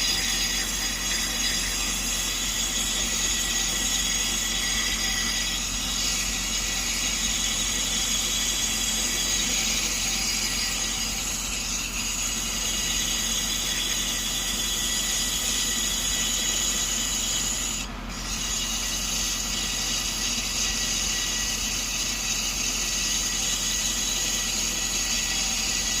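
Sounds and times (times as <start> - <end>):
metallic ringing of lathe: 0.0 - 26.0.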